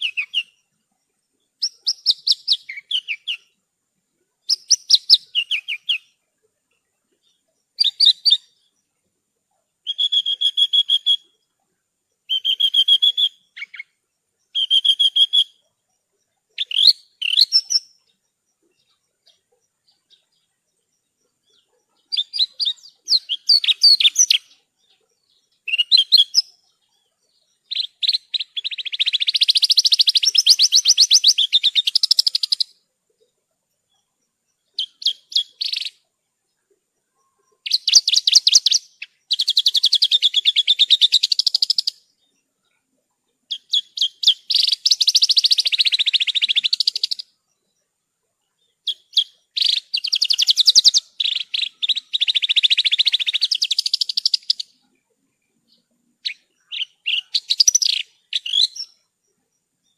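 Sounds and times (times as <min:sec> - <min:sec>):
bush lark singing trills: 0:00.0 - 0:03.6, 0:04.2 - 0:59.9.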